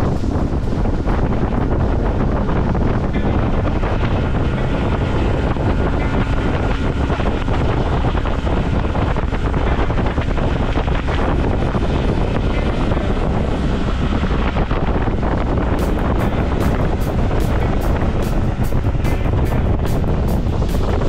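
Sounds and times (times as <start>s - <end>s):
motorboat engine running: 0.0s - 21.0s
wind buffeting microphone: 0.0s - 21.0s.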